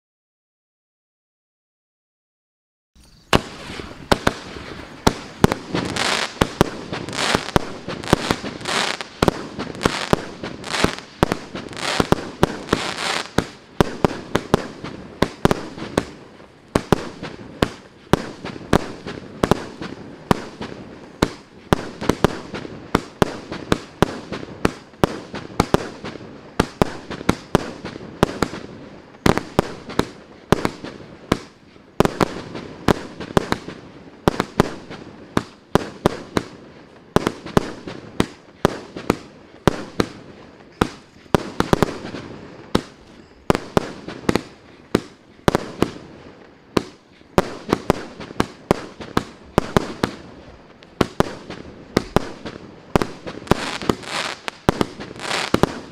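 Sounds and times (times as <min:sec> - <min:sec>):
firework bangs: 0:03.0 - 0:55.9
firework hissing and crackling: 0:03.0 - 0:55.9.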